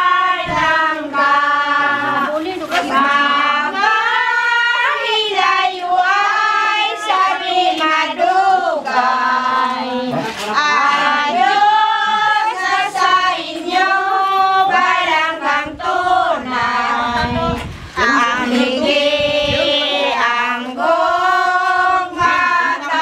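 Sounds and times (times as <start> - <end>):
group singing: 0.0 - 23.0.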